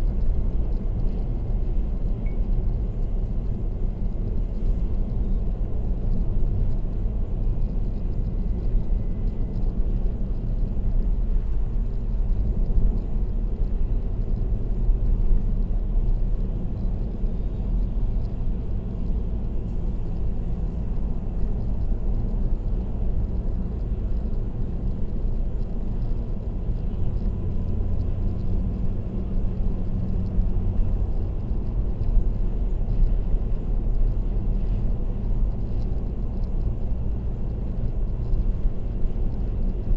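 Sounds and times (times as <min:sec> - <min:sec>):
faint engine hum: 0:00.0 - 0:39.9
road and tyre noise: 0:00.0 - 0:39.9.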